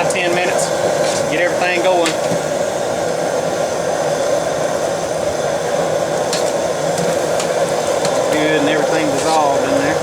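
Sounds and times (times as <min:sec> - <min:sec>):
burner fire rushing: 0:00.0 - 0:10.0.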